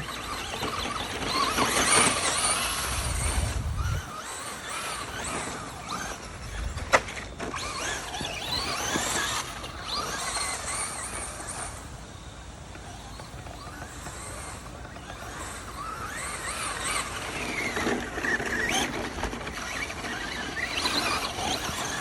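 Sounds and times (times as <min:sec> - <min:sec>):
electric motor whining: 0:00.0 - 0:22.0
wheels churning through mud: 0:00.0 - 0:22.0.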